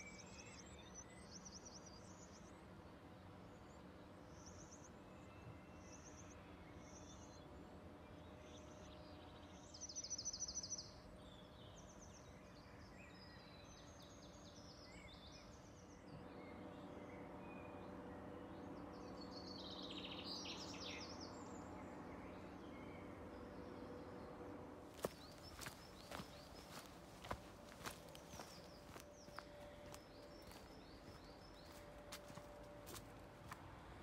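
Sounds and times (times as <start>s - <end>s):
faint steady hum: 0.0s - 34.0s
small birds singing: 0.0s - 34.0s.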